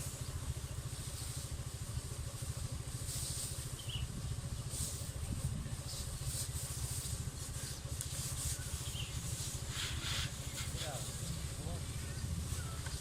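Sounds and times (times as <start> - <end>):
small engine droning: 0.0 - 13.0.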